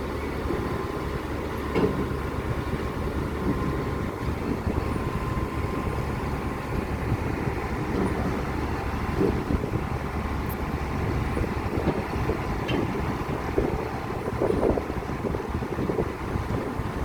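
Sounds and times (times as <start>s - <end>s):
pile-driving rig rumbling: 0.0s - 17.0s.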